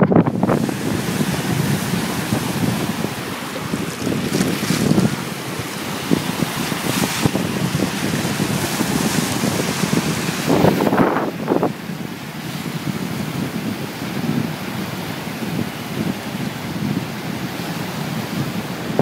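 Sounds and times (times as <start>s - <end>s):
sea surf breaking: 0.0s - 19.0s
wind buffeting the microphone: 0.0s - 19.0s.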